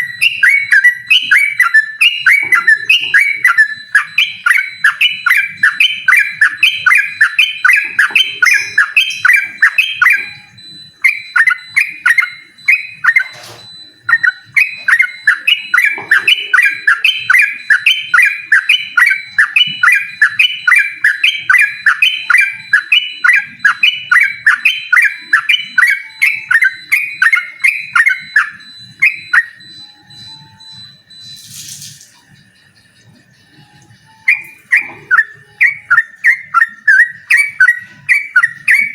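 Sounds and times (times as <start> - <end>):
bird singing chattering notes: 0.0 - 38.9.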